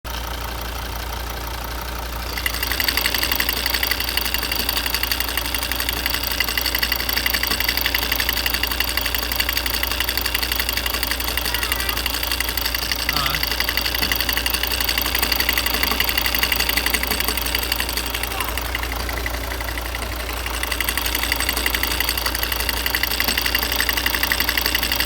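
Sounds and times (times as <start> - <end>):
diesel engine idling: 0.1 - 25.0
fast even knocking inside engine: 2.3 - 25.0.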